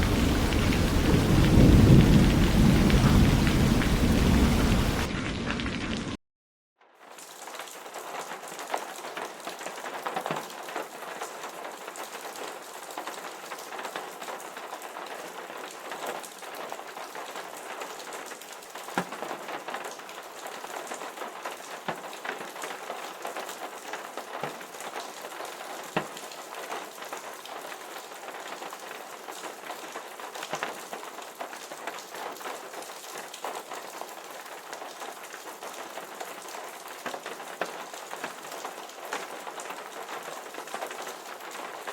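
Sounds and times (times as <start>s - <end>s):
steady rainfall: 0.0s - 6.2s, 7.0s - 41.9s.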